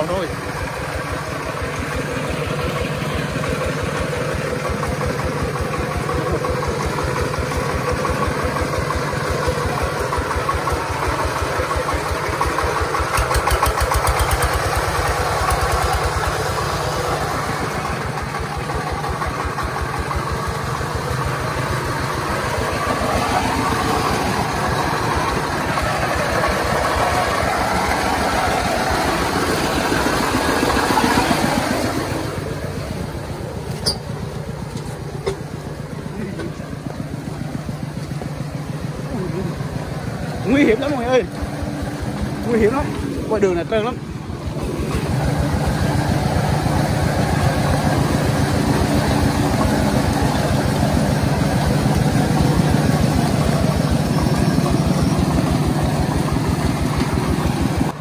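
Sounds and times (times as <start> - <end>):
diesel engine knocking under load: 0.0 - 58.0.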